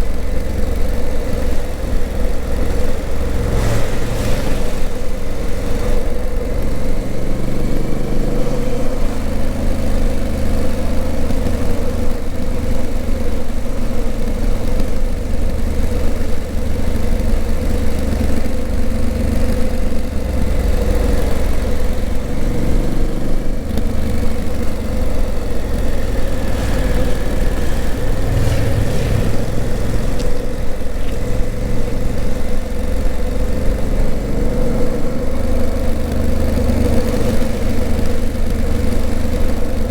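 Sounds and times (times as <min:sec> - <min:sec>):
motorcycle engine running: 0:00.0 - 0:39.9
road noise rush: 0:00.0 - 0:39.9.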